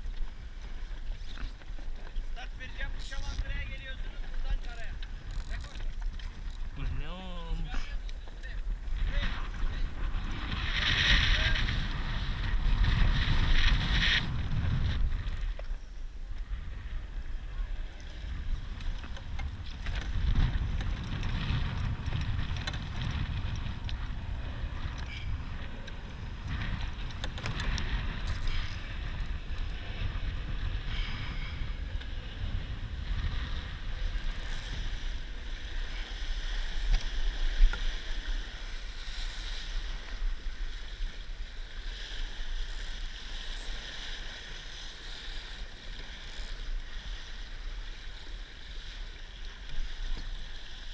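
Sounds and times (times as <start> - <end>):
water rushing along a hull: 0.0 - 50.9
wind buffeting microphone: 0.0 - 50.9.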